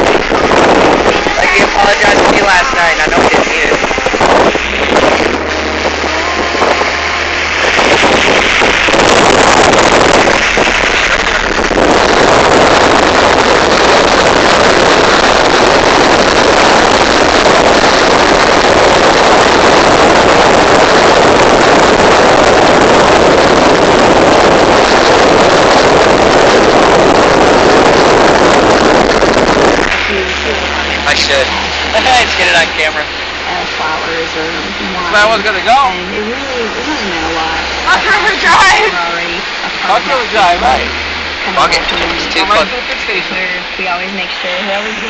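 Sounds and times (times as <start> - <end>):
wind and road noise in car: 0.0 - 45.0.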